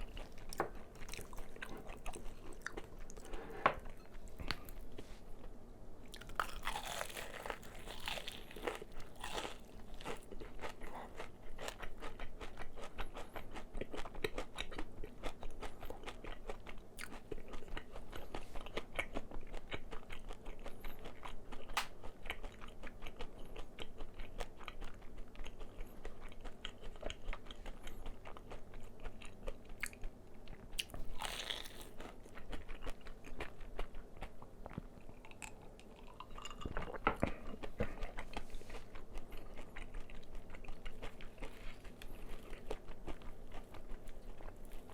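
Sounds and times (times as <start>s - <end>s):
chewing crispy fried chicken: 0.0s - 3.4s, 4.1s - 44.9s.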